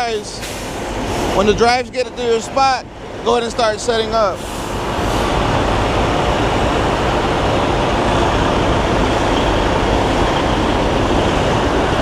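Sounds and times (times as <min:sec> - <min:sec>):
semi truck running: 0:00.0 - 0:12.0.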